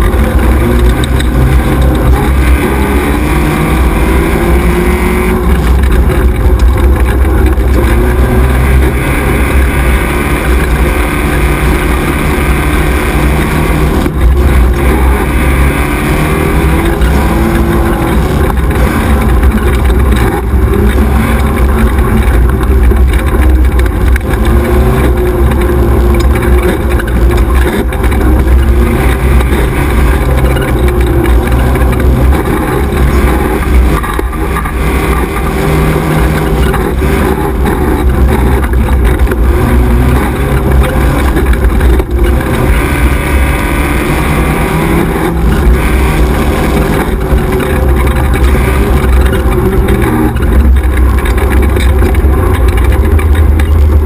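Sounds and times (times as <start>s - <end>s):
buggy engine running hard: 0.0s - 54.0s.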